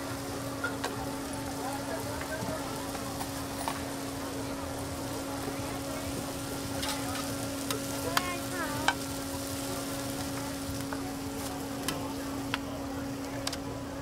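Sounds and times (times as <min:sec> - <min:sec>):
omelettes sizzling on a griddle: 0:00.0 - 0:14.0.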